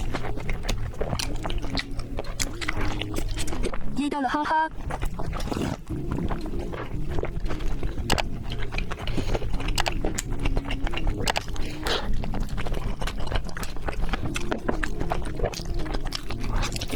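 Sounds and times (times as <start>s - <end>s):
mouth clicks and smacks chewing: 0.0s - 16.9s.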